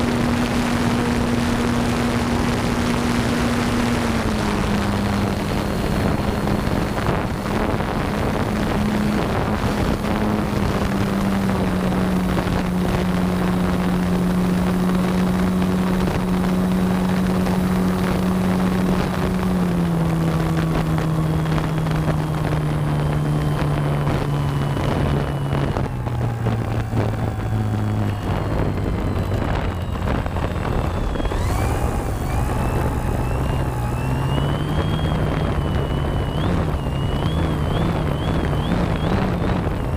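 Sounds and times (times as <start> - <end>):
electric motor and propeller droning: 0.0 - 39.9
wind buffeting microphone: 0.0 - 39.9.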